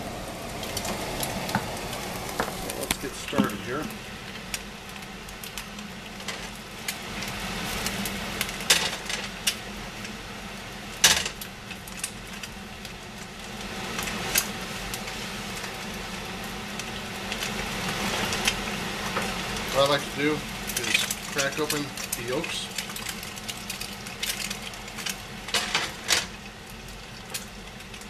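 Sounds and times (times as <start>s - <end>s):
frying pan sizzling: 0.0s - 28.0s.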